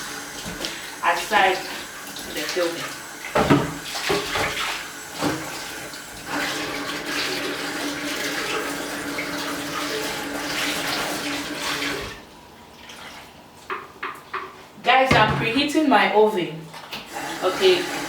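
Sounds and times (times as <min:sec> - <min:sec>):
tap water running: 0:00.0 - 0:15.8, 0:16.7 - 0:18.0.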